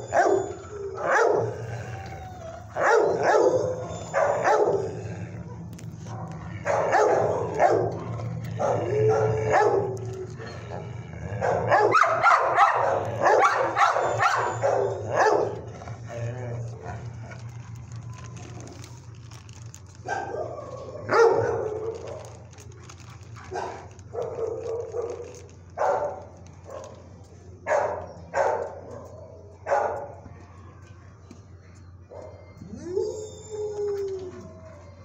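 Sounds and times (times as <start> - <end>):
dogs barking: 0.0 - 30.7, 32.0 - 32.8.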